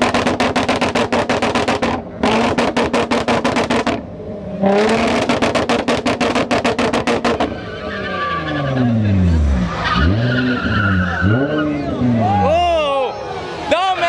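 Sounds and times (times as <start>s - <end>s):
car engine on rev limiter: 0.0s - 12.5s.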